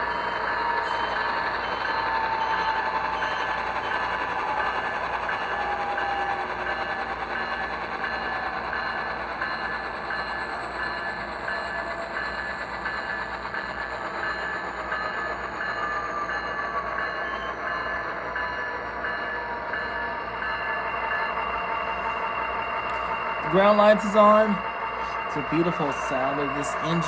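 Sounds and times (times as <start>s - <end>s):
diesel locomotive engine through small speaker: 0.0s - 27.0s.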